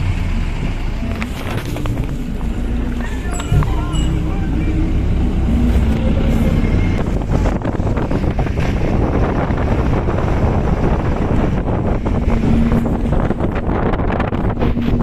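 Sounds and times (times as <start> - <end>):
road noise: 0.0 - 15.0
vehicle engine: 0.0 - 15.0
wind buffeting microphone: 0.0 - 15.0.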